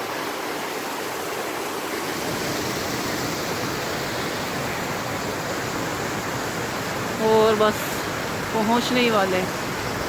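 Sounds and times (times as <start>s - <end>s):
fast-flowing water rushing: 0.0s - 10.0s.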